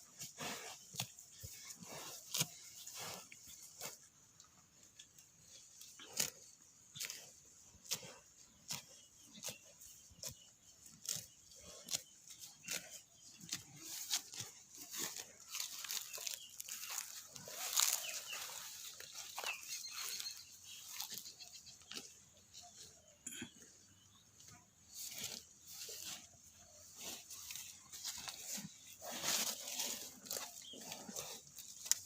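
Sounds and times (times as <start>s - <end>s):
cow tearing and chewing grass: 0.0s - 32.0s.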